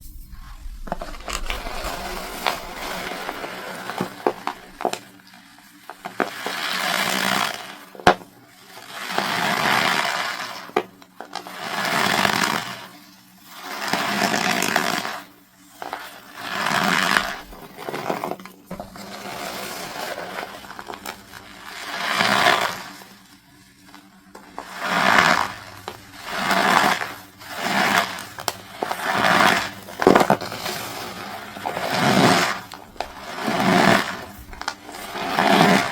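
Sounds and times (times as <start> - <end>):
cornstarch crunching: 0.0 - 35.9.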